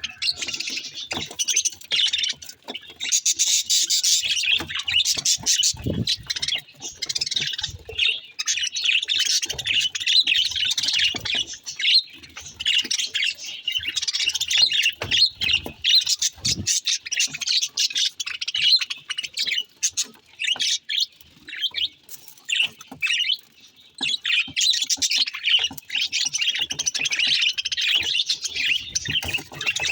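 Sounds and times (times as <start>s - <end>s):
budgies chirping and warbling: 0.0s - 29.9s.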